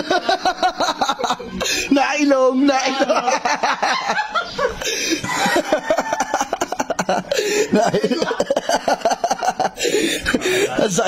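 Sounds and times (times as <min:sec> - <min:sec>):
stifled laughter: 0:00.0 - 0:01.9, 0:02.7 - 0:11.0.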